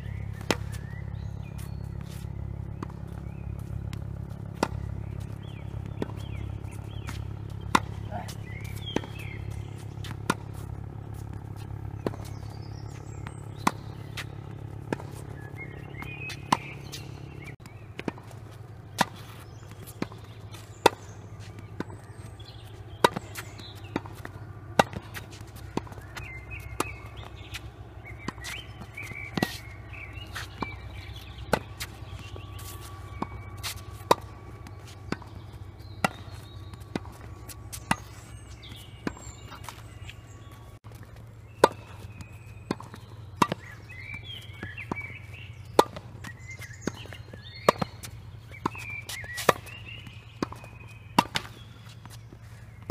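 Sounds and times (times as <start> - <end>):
tennis ball hits and bounces: 0.0 - 52.9.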